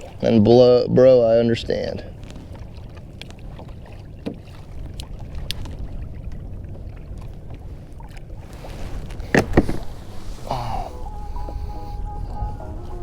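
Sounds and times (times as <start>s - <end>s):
wind and water wash: 0.0s - 13.0s.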